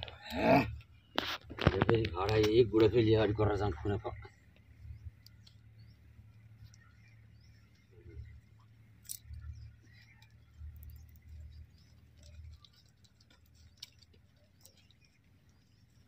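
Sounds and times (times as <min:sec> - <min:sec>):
hoof trimming clicks and scrapes: 0:00.0 - 0:03.1, 0:03.8 - 0:16.0.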